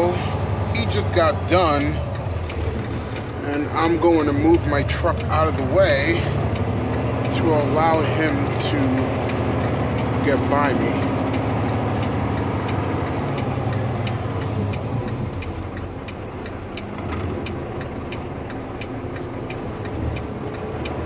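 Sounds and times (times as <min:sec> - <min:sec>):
diesel truck engine drone: 0:00.0 - 0:21.0
turn signal clicking: 0:00.0 - 0:21.0.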